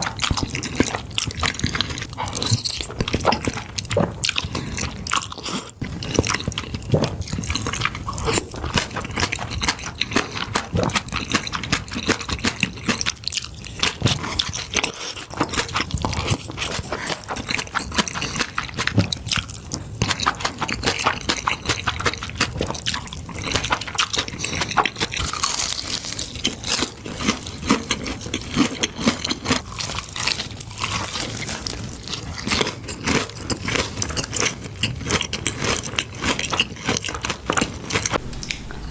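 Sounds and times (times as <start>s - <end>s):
chewing and slurping: 0.0s - 38.9s.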